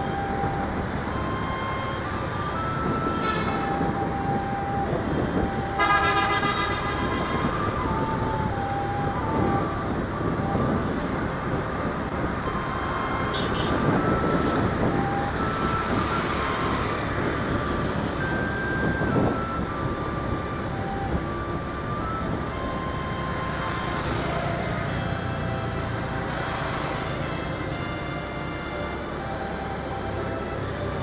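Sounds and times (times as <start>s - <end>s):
faint melody of held notes: 0.0s - 31.0s
wind and road noise: 0.0s - 31.0s.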